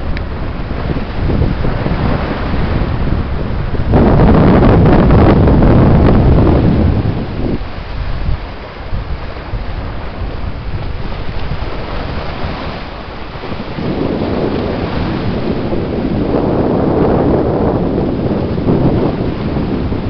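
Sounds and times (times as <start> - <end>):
waves washing: 0.0 - 20.0
wind buffeting microphone: 0.0 - 20.0.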